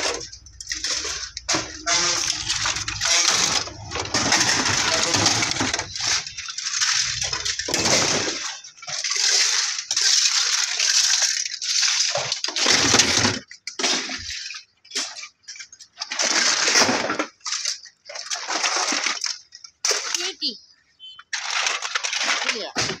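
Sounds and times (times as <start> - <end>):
plastic scrap clattering into tub: 0.0 - 20.3, 21.3 - 23.0.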